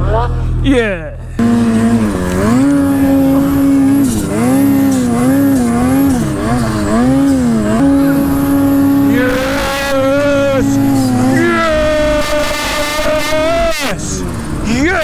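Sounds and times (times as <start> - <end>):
snowmobile engine revving: 1.4 - 15.0.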